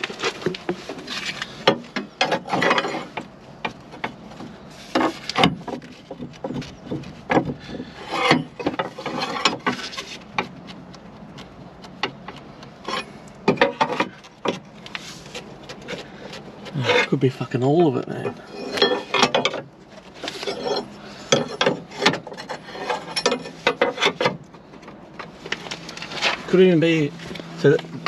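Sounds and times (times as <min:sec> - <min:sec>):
metal parts clicking and scraping: 0:00.0 - 0:04.2, 0:04.8 - 0:17.2, 0:18.0 - 0:26.6.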